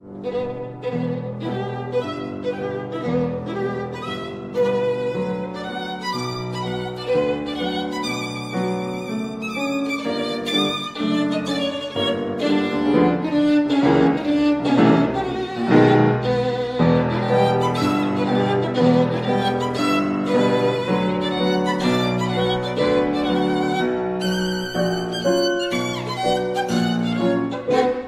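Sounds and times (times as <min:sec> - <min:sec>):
violin playing a melody: 0:00.0 - 0:28.0.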